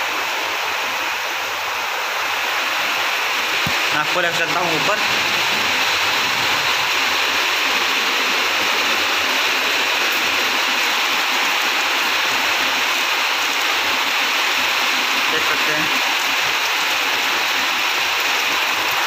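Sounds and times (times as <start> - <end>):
heavy rain on flooded roof: 0.0 - 19.0.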